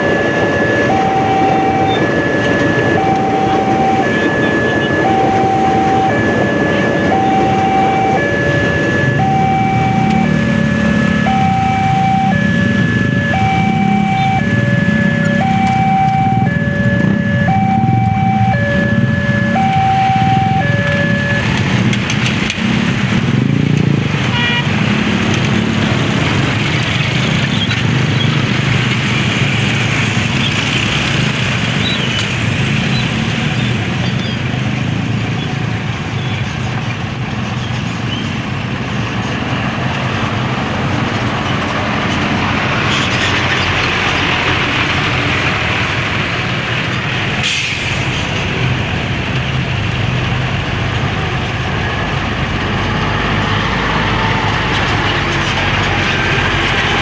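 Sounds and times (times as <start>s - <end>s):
low rumble of engines: 0.0s - 57.0s.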